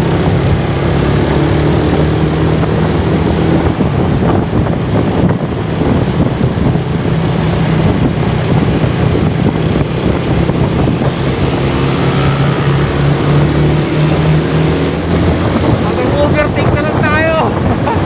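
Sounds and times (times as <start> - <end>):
motorcycle engine running: 0.0 - 16.8
wind buffeting microphone: 0.0 - 18.0.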